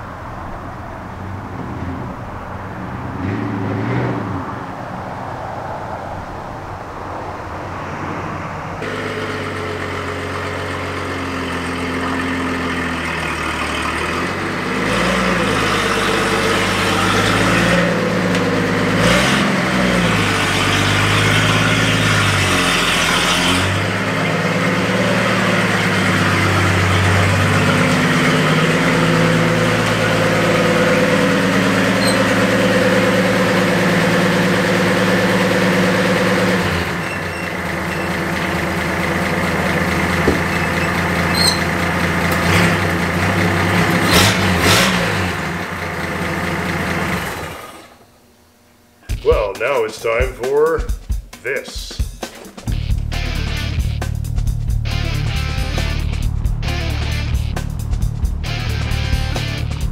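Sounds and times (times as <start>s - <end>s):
car engine idling and revving: 0.0s - 49.0s, 52.4s - 59.9s.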